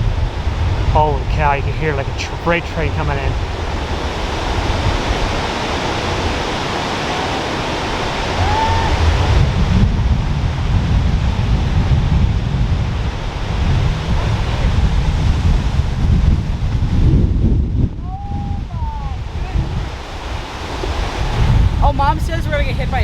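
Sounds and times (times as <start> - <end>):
strong storm wind roaring: 0.0 - 23.0
wind gusts buffeting microphone: 0.0 - 23.0.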